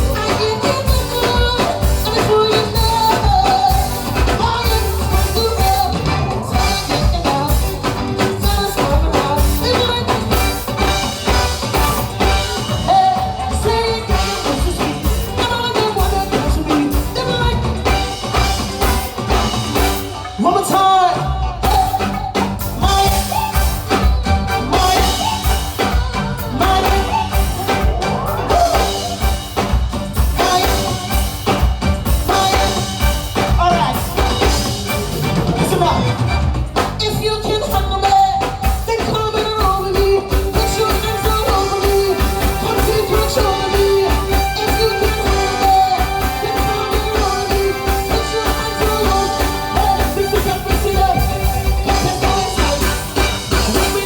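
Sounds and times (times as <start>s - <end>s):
loud soca band music: 0.0s - 54.0s.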